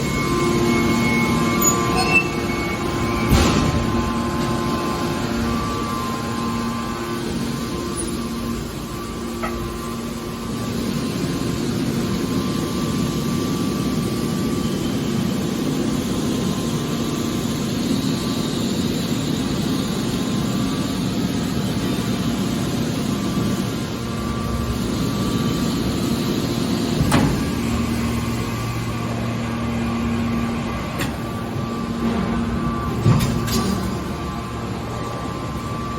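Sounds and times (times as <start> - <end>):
baler machine hum: 0.0 - 35.9.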